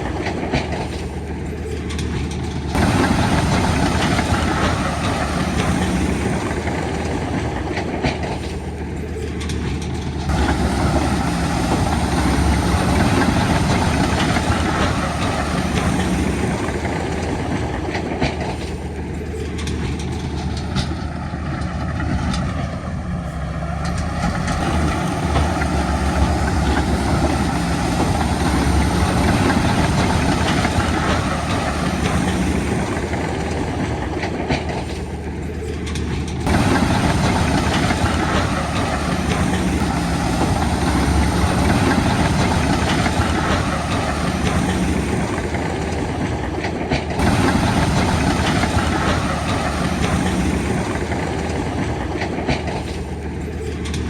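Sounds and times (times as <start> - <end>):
diesel engine under load: 0.0 - 54.0
steel tracks clanking and squealing: 0.0 - 54.0.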